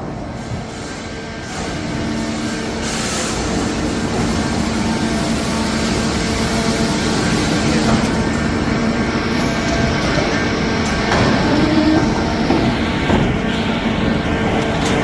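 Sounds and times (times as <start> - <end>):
steady mechanical rumble: 0.0 - 15.0.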